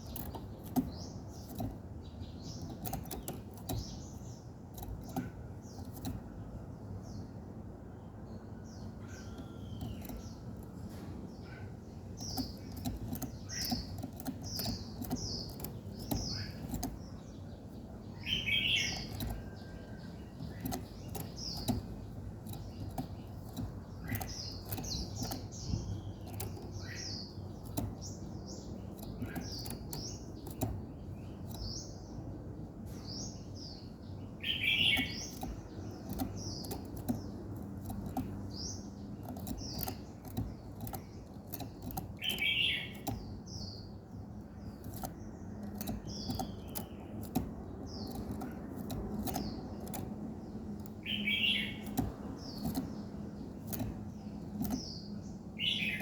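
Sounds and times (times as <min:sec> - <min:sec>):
faint clicks: 0:00.0 - 0:06.4, 0:08.6 - 0:11.5, 0:12.1 - 0:31.9, 0:34.6 - 0:55.8
small birds chirping: 0:00.0 - 0:56.0.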